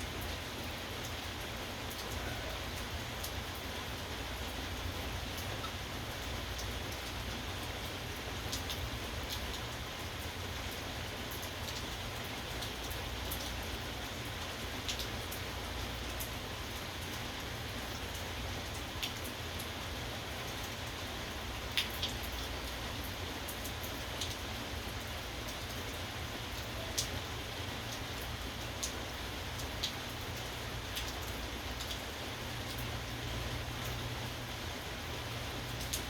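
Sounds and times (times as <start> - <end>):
steady rainfall hiss: 0.0 - 36.0.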